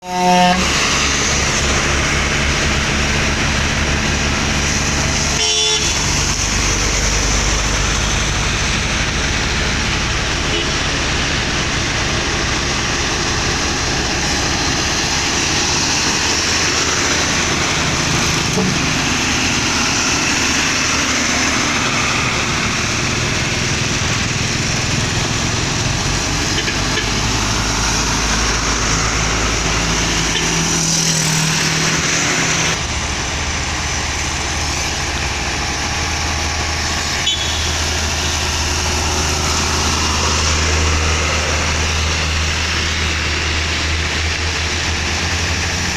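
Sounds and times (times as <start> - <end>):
dump truck engines driving past: 0.0 - 45.9.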